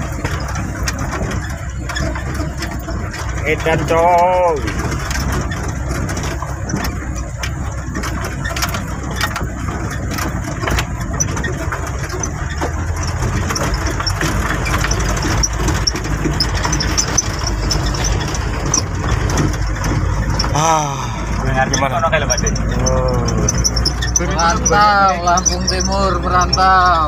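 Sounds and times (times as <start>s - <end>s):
cab rattling and knocking: 0.0s - 27.0s
truck engine running: 0.0s - 27.0s.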